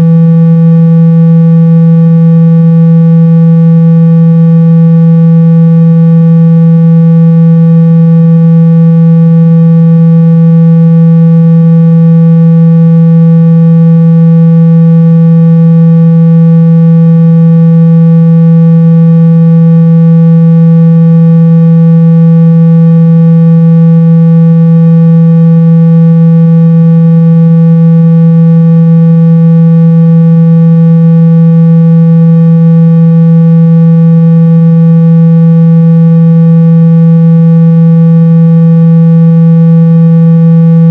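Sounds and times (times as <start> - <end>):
loud buzzy low-pitched tone: 0.0 - 40.9.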